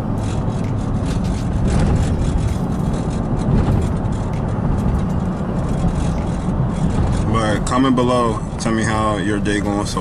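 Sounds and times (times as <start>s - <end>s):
truck road and engine rumble: 0.0s - 10.0s.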